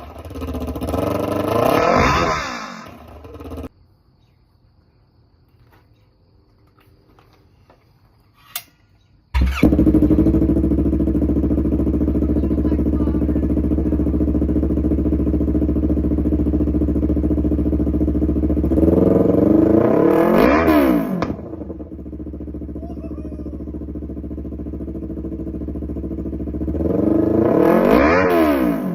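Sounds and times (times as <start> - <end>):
motorcycle engine idling and revving: 0.0 - 3.8, 9.3 - 28.9.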